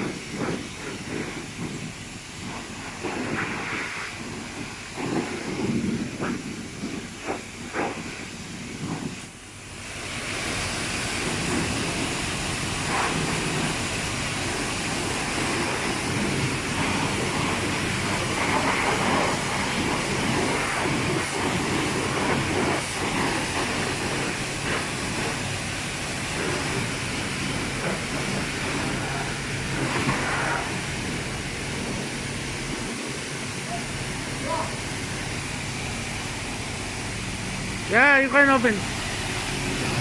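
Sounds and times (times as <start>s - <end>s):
pressure washer spraying: 0.0s - 40.0s.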